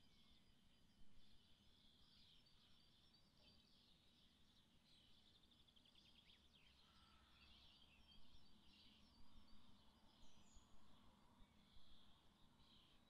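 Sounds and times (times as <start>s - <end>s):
songbirds twittering: 0.0s - 13.0s.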